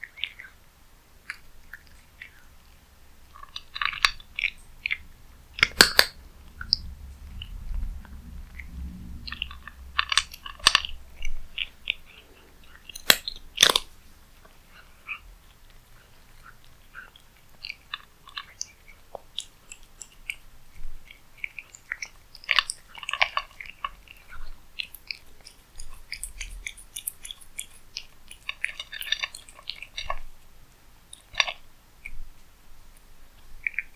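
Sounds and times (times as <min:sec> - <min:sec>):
cat chewing food: 0:00.0 - 0:33.9.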